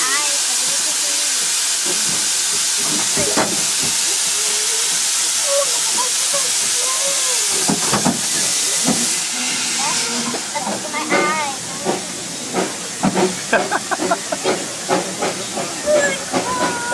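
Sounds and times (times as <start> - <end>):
steam locomotive hissing: 0.0 - 16.9.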